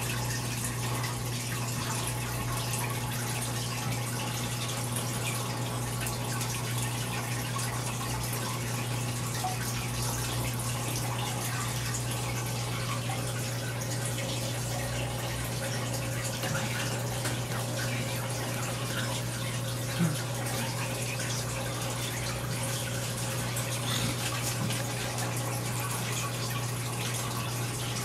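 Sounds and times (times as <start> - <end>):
aquarium filter water trickling: 0.0 - 28.0.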